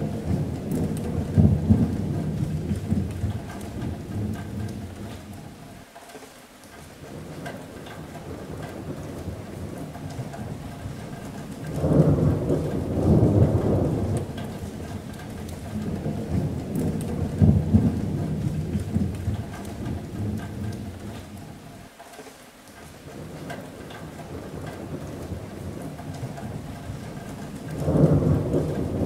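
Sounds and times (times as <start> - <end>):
rolling thunder: 0.0 - 5.5, 7.1 - 21.6, 23.1 - 29.0
rain on a metal roof: 0.0 - 29.0.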